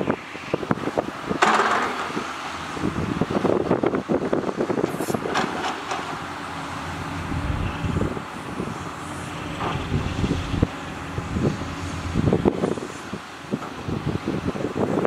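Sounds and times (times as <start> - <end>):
excavator diesel engines running: 0.0 - 15.0.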